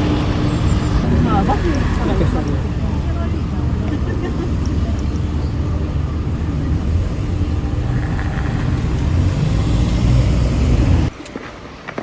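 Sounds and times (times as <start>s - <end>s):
road vehicle rumbling: 0.0s - 12.0s.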